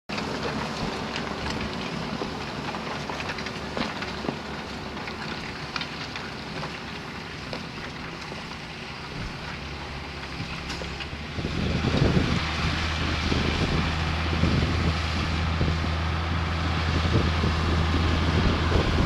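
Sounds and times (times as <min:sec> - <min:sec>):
tractor engine under load: 0:00.1 - 0:19.0.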